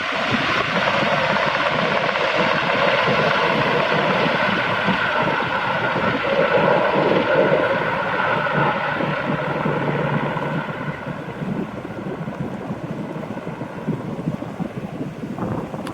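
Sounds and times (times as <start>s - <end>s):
helicopter engines and rotors: 0.0s - 15.9s
wind buffeting microphone: 0.0s - 15.9s.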